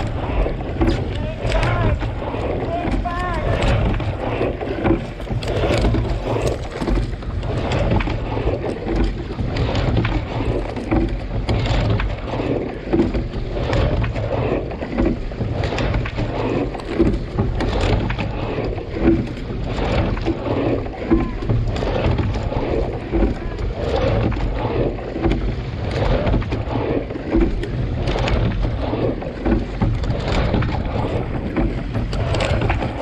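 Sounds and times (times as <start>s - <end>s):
oar knock and splash: 0.0s - 33.0s
water rushing along hull: 0.0s - 33.0s
wind rumble on microphone: 0.0s - 33.0s.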